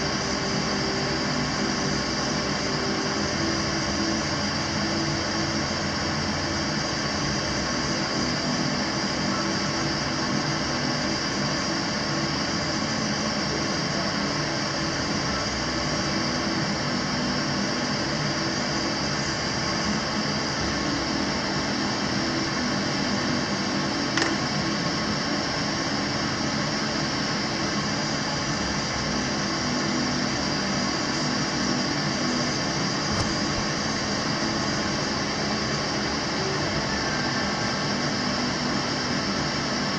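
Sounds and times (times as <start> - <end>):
mechanical whir with hiss: 0.0 - 39.9.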